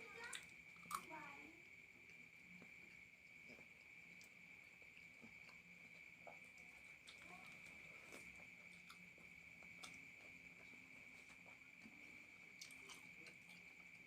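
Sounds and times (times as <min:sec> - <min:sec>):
soft chewing and mouth clicks: 0:00.0 - 0:14.0.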